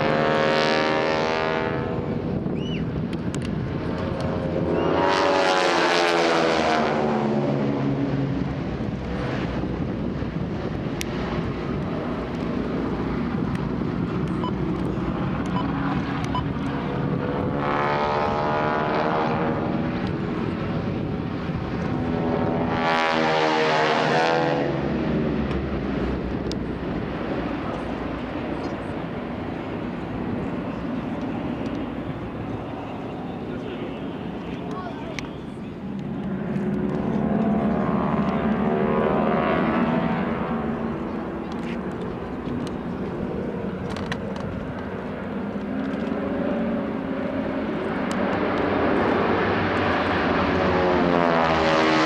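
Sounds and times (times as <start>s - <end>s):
propeller planes droning overhead: 0.0s - 52.0s.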